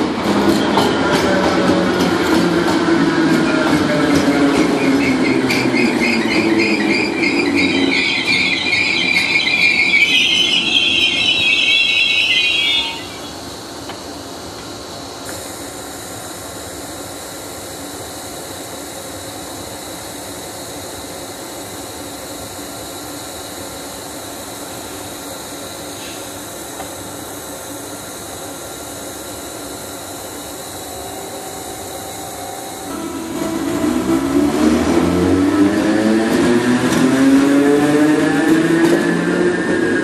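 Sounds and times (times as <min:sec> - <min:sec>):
electric train humming and hissing: 0:00.0 - 0:40.0.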